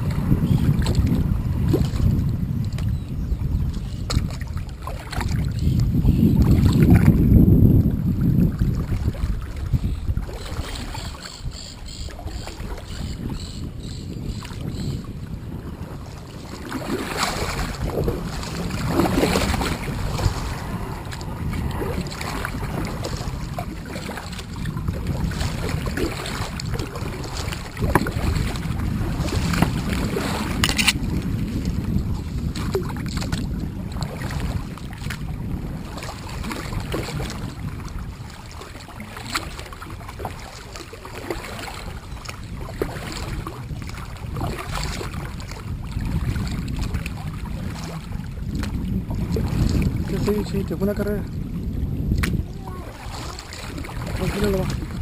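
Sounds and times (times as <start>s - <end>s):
water sloshing: 0.0s - 55.0s
wind on microphone: 0.0s - 55.0s.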